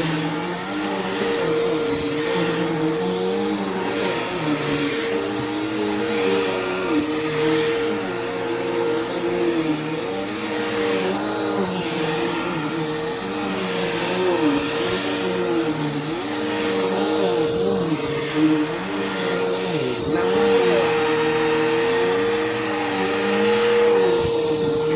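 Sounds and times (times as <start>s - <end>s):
upright vacuum cleaner running: 0.0s - 24.9s.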